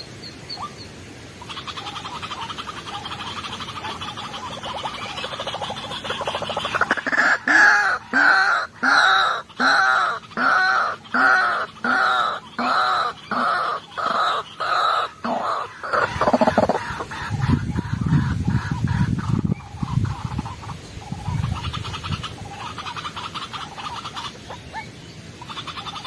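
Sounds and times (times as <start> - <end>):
waterhen calling: 0.0 - 26.0.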